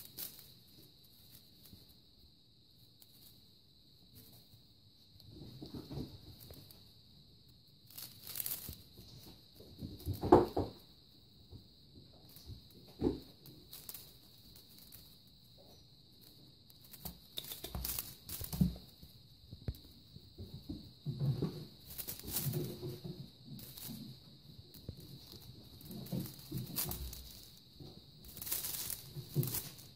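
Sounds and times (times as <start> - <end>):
kitten playing with feather toy: 0.0 - 4.6, 5.3 - 10.7, 12.2 - 29.9
faint high-pitched hiss: 0.0 - 29.9.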